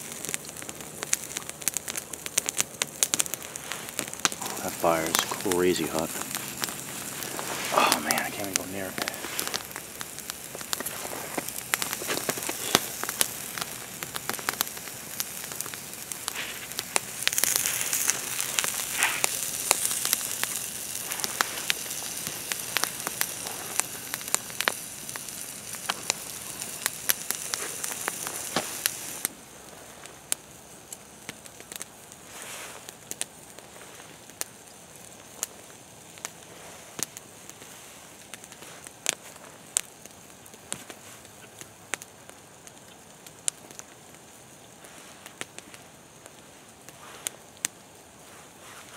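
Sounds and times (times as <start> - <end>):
meat sizzling on hot rock: 0.0 - 48.9
wood fire crackling and popping: 0.0 - 48.9.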